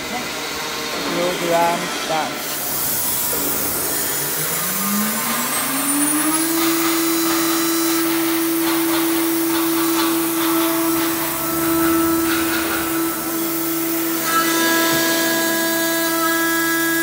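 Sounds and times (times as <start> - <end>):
milling machine spindle whine: 0.0 - 17.0
cutter cutting aluminum: 0.9 - 17.0.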